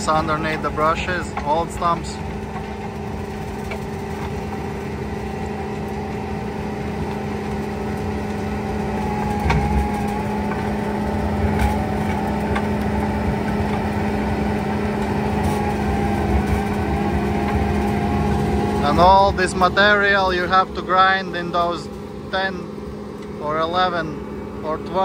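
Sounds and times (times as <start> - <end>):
loader engine and mulcher rotor hum: 0.0 - 25.0.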